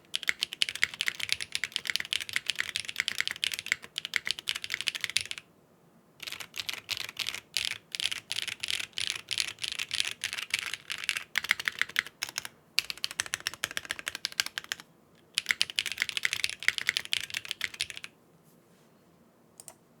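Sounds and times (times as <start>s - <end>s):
fast typing on mechanical keyboard: 0.1s - 5.4s, 6.2s - 18.1s.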